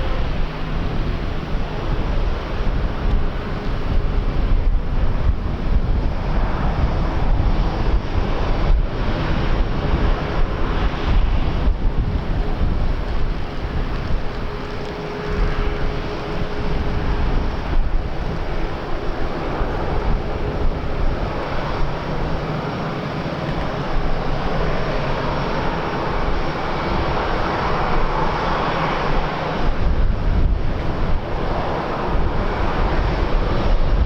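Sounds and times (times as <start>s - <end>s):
airliner engines droning: 0.0s - 34.0s
wind buffeting microphone: 0.0s - 34.0s.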